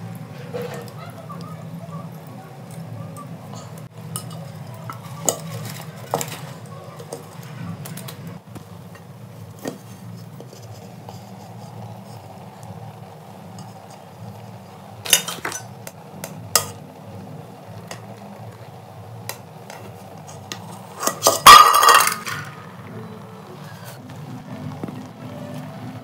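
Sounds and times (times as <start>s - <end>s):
cooking pots clanking: 0.0s - 24.0s
steady low hum: 0.0s - 26.0s.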